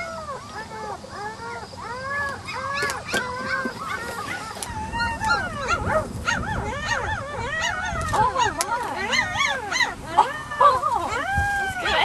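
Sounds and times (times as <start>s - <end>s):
puppies whining and yelping: 0.0s - 12.0s.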